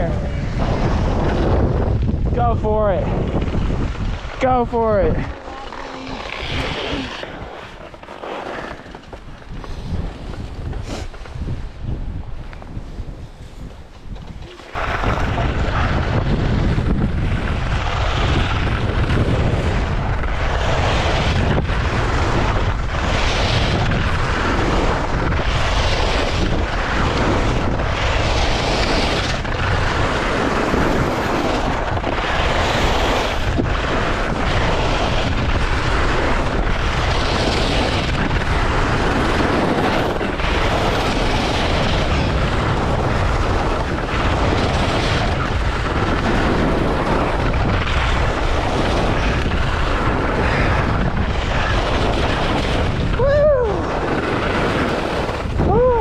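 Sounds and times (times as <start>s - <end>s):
skis carving on snow: 0.0s - 56.0s
wind rumbling on microphone: 0.0s - 56.0s.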